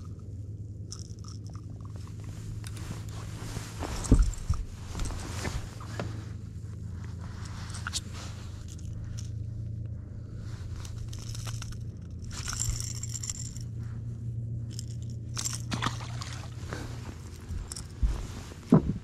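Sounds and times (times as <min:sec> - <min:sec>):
steady low hum: 0:00.0 - 0:19.0
handling clicks and scrapes: 0:00.9 - 0:19.0.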